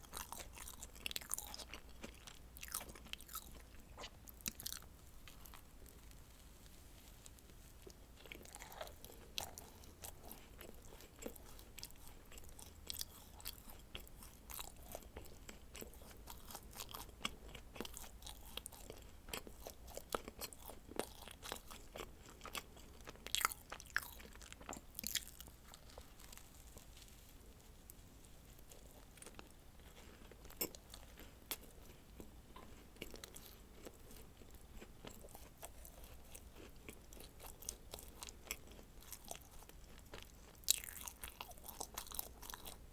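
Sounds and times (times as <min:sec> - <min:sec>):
person chewing crisp food: 0:00.0 - 0:42.9.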